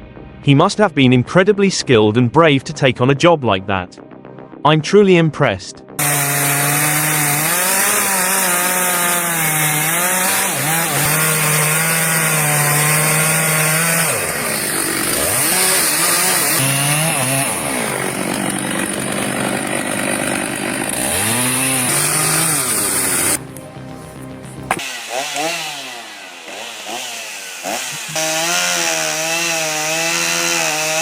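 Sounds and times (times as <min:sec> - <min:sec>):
chainsaw cutting wood: 0:06.0 - 0:31.0.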